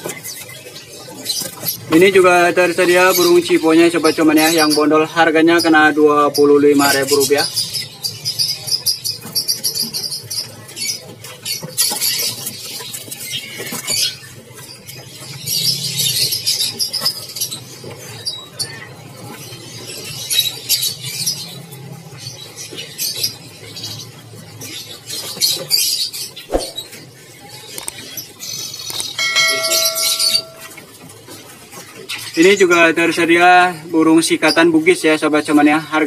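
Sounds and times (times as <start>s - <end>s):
small songbirds chirping: 0.0s - 36.0s.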